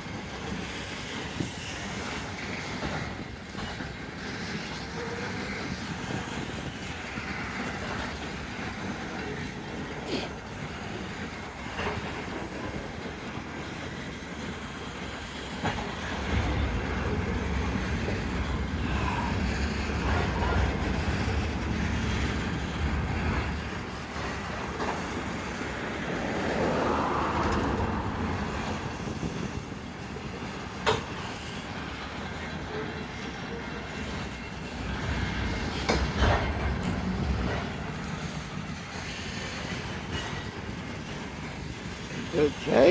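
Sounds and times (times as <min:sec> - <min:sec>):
freight train cars rumbling: 0:00.0 - 0:42.9
wheels clicking over rails: 0:00.1 - 0:42.9.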